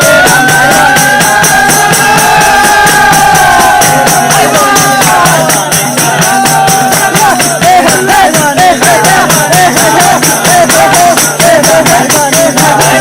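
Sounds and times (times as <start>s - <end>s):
fast percussion beat: 0.0s - 13.0s.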